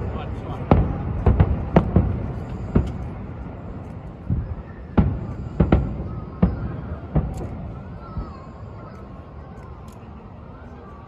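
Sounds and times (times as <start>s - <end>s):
fireworks bursting with bangs: 0.0s - 9.2s.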